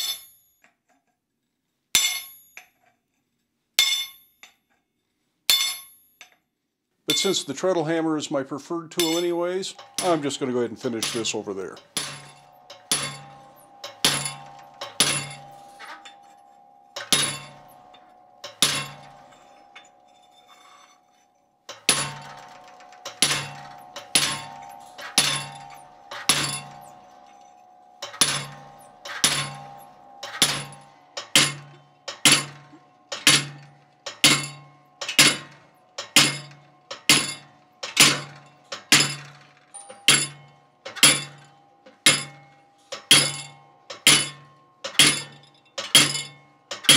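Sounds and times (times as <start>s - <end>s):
hammer striking chisel on steel: 2.0s - 2.7s, 3.8s - 4.6s, 5.5s - 6.4s, 8.9s - 39.2s, 39.8s - 46.9s.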